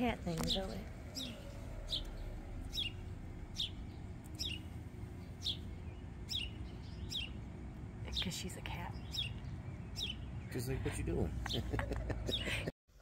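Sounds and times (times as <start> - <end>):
bird chirping: 0.0 - 12.5
low background rumble: 0.0 - 12.7.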